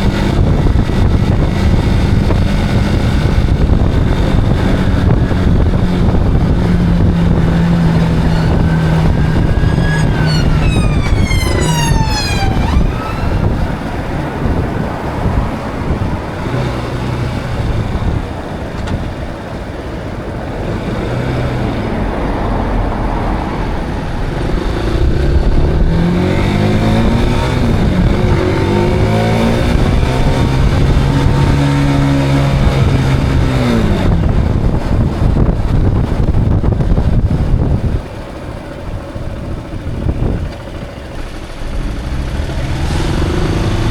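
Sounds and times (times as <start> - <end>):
motorcycle engine running: 0.0 - 21.8, 23.8 - 43.9
wind rush: 0.0 - 41.1.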